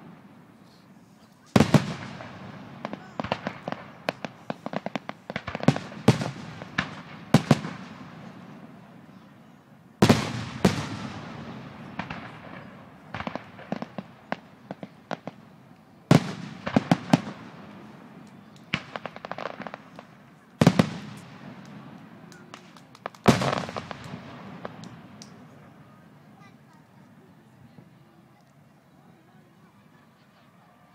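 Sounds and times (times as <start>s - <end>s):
fireworks crackling pops: 0.0s - 9.1s, 10.0s - 27.1s
firework bursts: 0.0s - 27.0s.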